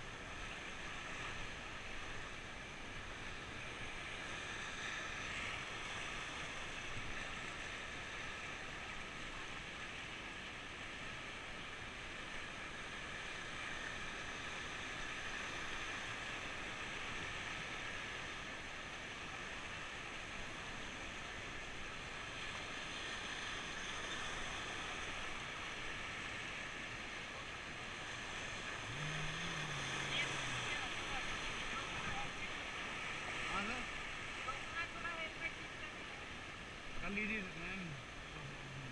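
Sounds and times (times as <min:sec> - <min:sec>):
fast-flowing river water: 0:00.0 - 0:38.9.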